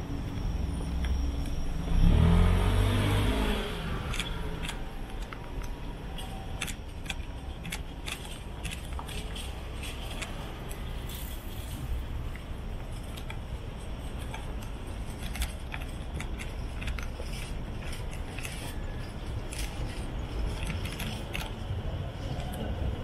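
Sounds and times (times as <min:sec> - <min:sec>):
low street rumble: 0:00.0 - 0:23.0.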